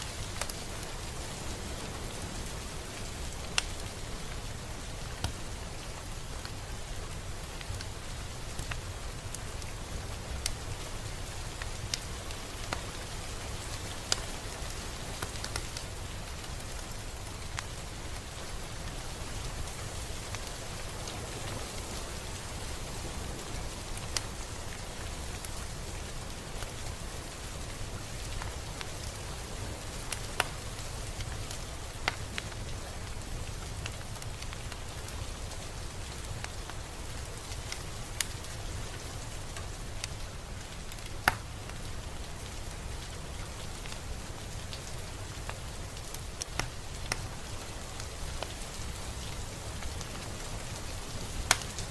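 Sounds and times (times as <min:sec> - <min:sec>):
raindrop ticks: 0:00.0 - 0:51.9
steady rain hiss: 0:00.0 - 0:51.9.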